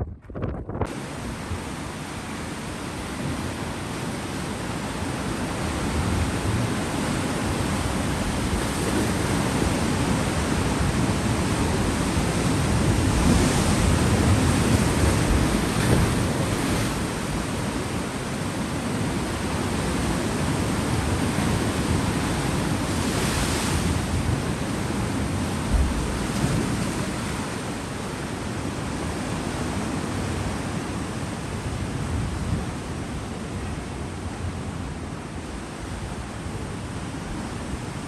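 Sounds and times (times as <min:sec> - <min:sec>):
wind: 0:00.0 - 0:38.0
ocean waves: 0:00.9 - 0:38.0.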